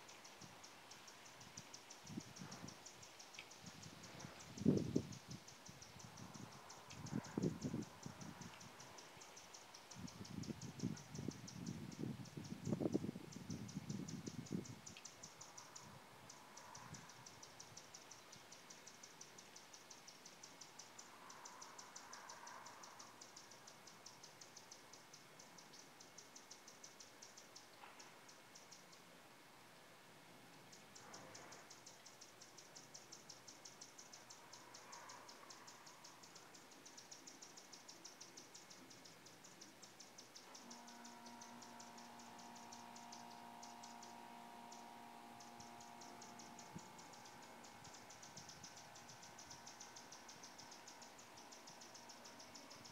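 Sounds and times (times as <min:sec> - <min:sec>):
rapid high-pitched ticking: 0:00.0 - 0:29.2, 0:30.7 - 0:52.9
faint steady hum: 0:00.0 - 0:52.9.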